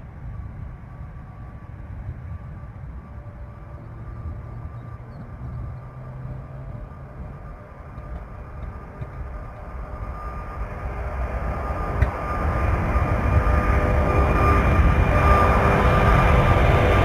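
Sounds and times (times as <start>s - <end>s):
jet engine high whine: 0.0s - 17.0s
jet engines deep rumble: 0.0s - 17.0s.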